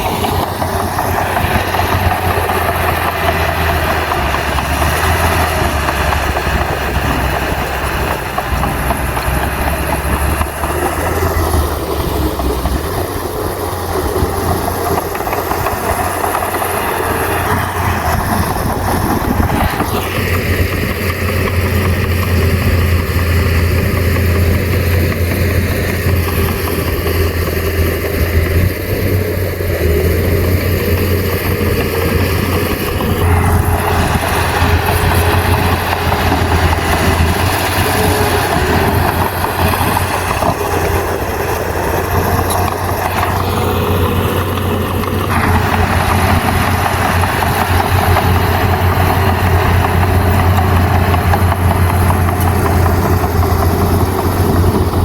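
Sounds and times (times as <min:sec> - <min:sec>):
bulldozer diesel engine humming: 0:00.0 - 0:55.0
coarse rushing noise: 0:00.0 - 0:55.0.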